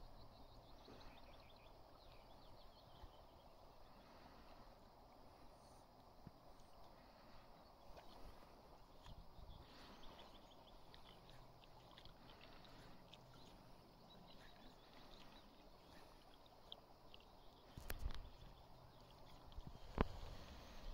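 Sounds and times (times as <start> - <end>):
calm river water: 0.0 - 20.9.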